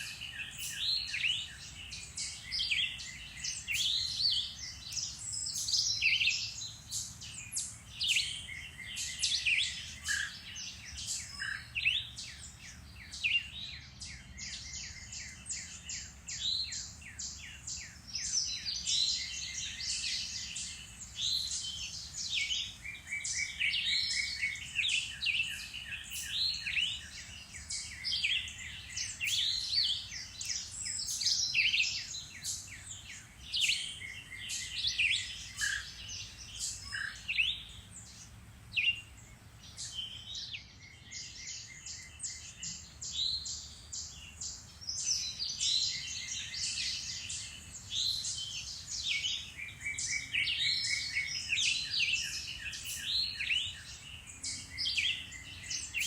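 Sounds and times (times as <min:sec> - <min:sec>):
songbirds singing and chirping: 0:00.0 - 0:56.0.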